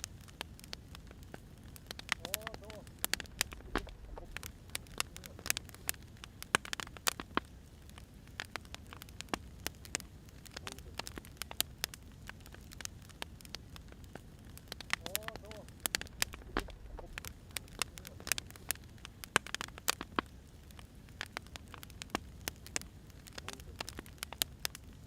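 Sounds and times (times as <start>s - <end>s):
firewood crackling and popping: 0.0s - 25.0s
low fire rumble: 0.0s - 25.0s.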